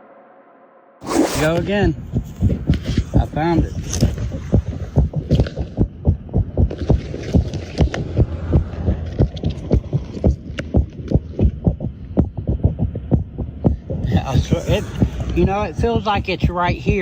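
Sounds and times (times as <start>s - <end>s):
low hum: 0.0s - 17.0s
rapid low underground thumping: 1.0s - 17.0s.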